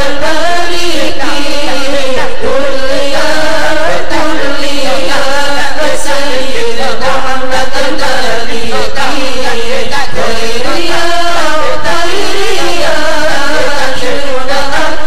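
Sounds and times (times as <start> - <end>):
voices chanting: 0.0 - 15.0.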